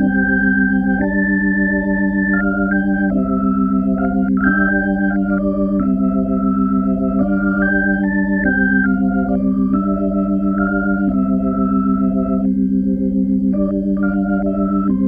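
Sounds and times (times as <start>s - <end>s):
organ music: 0.0s - 15.0s.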